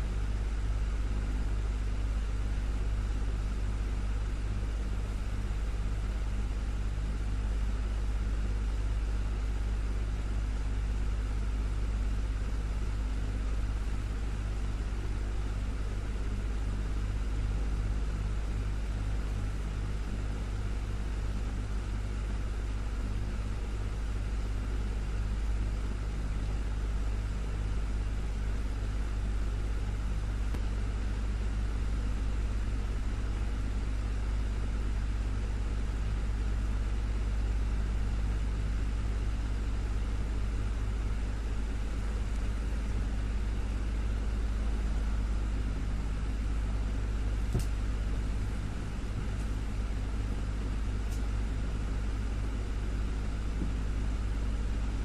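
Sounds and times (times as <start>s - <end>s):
desktop fan running: 0.0s - 55.0s.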